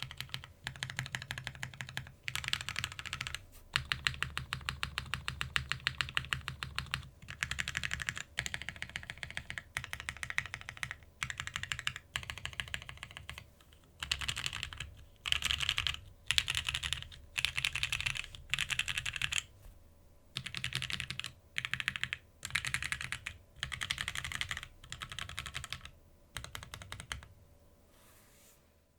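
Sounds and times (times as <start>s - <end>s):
mechanical keyboard typing: 0.0s - 19.5s, 20.4s - 27.3s.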